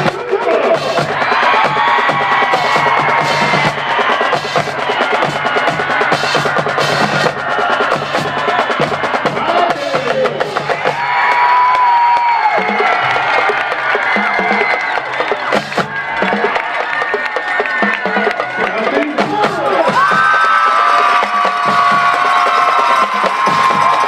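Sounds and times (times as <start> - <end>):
drums and percussion: 0.0 - 24.0.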